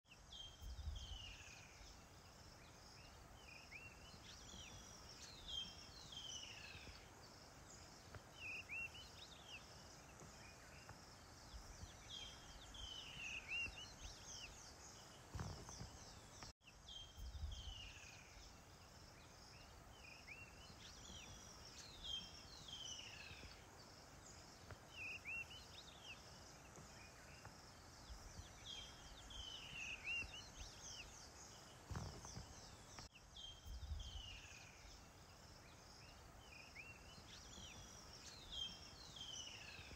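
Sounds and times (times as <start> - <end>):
soft steady hiss: 0.1 - 39.9
whistled birdsong calls: 0.1 - 39.9.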